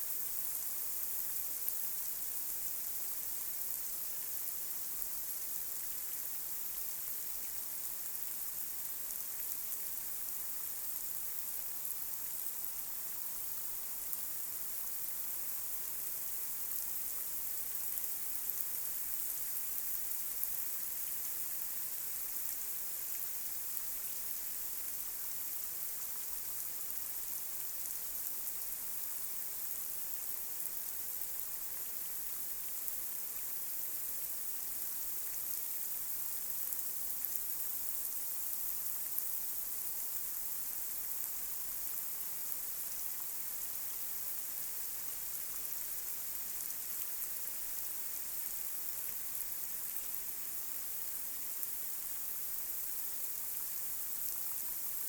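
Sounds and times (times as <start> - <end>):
light rain on a street: 0.0 - 55.0.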